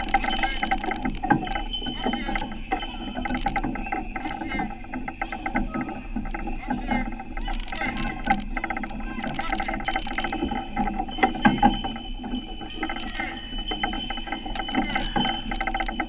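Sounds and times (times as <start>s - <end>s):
carriage rattling and clicking: 0.0s - 16.0s
horse hooves: 0.0s - 16.0s.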